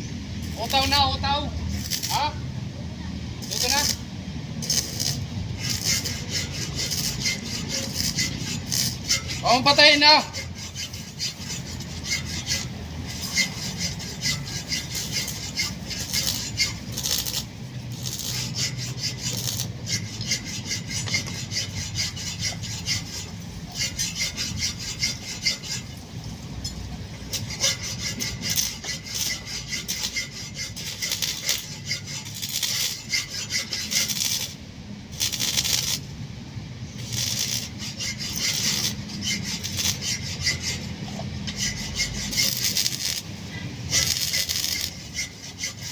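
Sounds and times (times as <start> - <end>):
rough scraping and rasping: 0.4 - 2.4, 3.4 - 36.1, 36.9 - 45.9.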